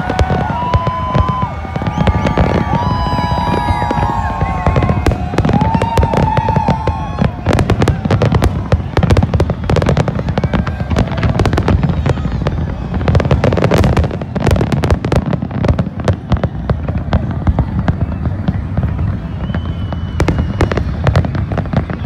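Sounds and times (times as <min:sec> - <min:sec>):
fireworks bangs and crackles: 0:00.0 - 0:22.0
low rumble of explosions: 0:00.0 - 0:22.0.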